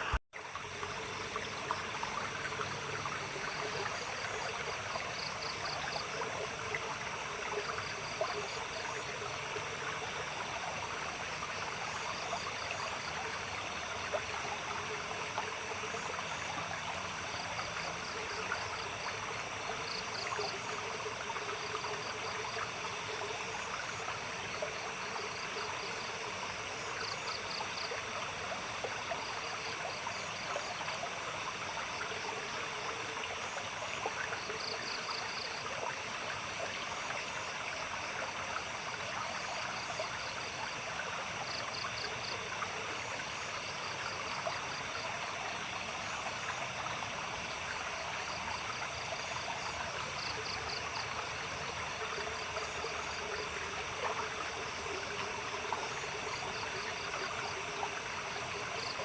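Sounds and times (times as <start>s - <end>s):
night insects chirping: 0.0s - 59.0s
small stream trickling: 0.0s - 59.0s.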